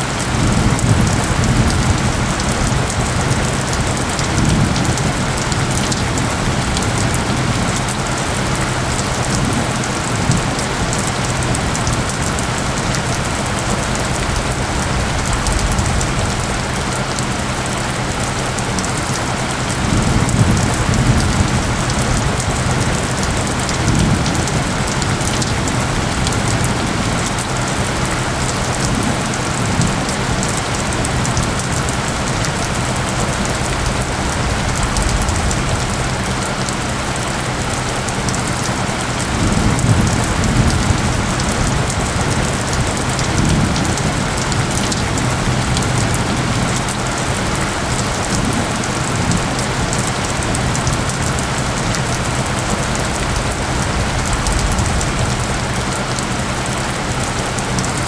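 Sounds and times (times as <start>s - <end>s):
dense rain pattering: 0.0s - 58.0s.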